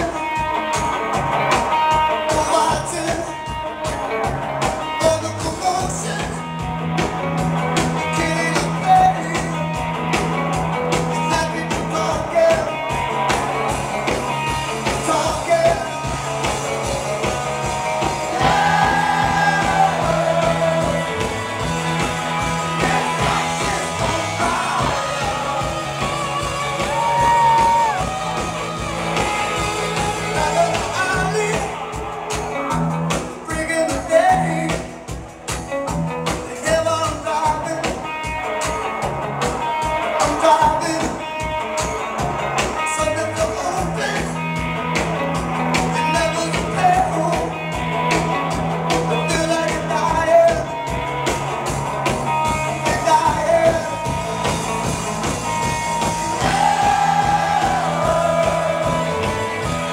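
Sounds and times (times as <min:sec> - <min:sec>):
live band with singer: 0:00.0 - 0:59.9.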